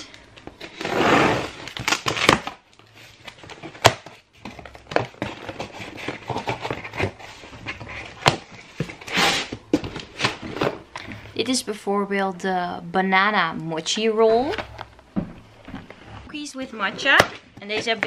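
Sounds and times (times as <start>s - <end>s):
items rustling and knocking: 0.3s - 11.4s, 13.9s - 18.0s.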